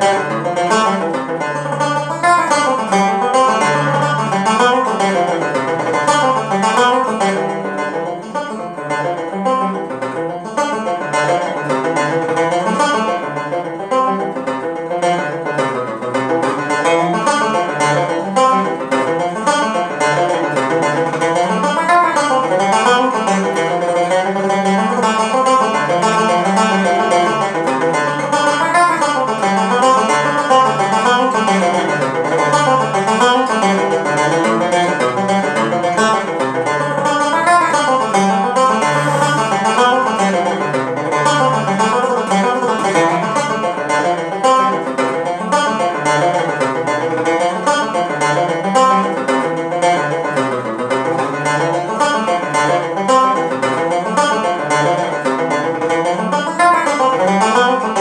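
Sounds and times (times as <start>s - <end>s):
banjo picking fast notes: 0.0s - 58.0s.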